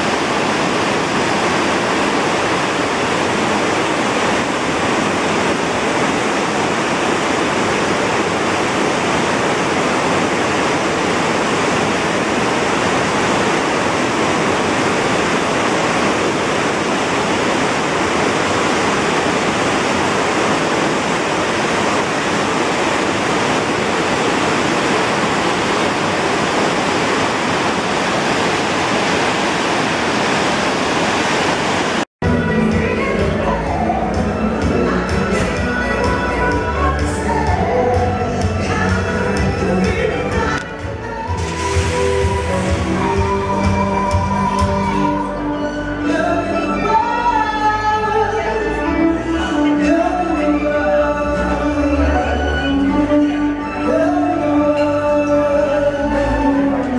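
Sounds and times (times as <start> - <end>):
sea water rushing: 0.0 - 56.9
wind: 0.0 - 56.9.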